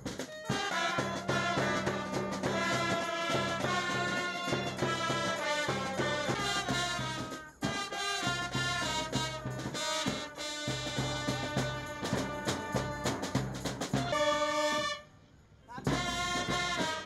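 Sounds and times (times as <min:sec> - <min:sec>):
brass band playing a march: 0:00.0 - 0:15.1, 0:15.9 - 0:17.0.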